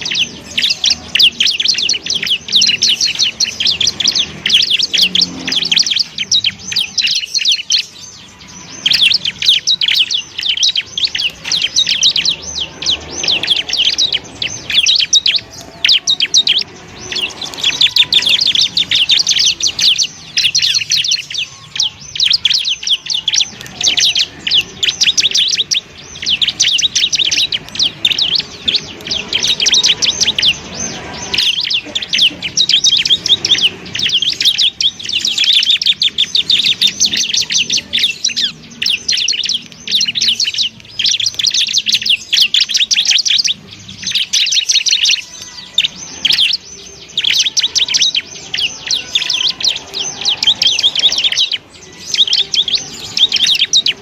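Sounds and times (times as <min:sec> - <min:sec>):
bird singing chattering trills: 0:00.0 - 0:54.0.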